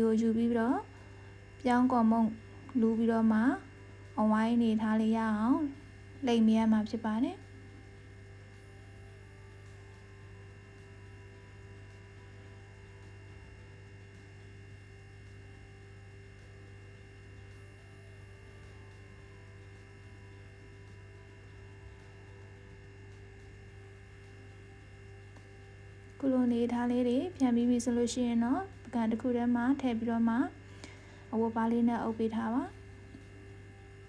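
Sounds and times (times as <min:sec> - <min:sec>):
faint high steady tone: 0:00.0 - 0:34.0
low electrical hum: 0:00.0 - 0:34.0.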